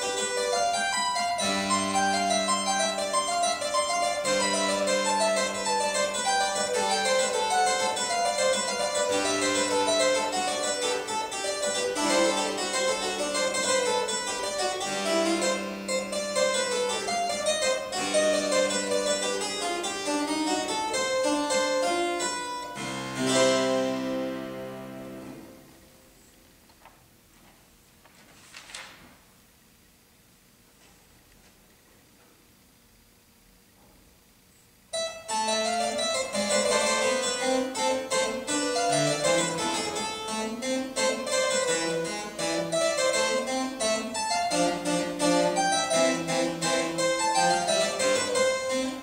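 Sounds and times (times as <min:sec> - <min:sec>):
harpsichord playing: 0:00.0 - 0:26.1, 0:35.0 - 0:49.0.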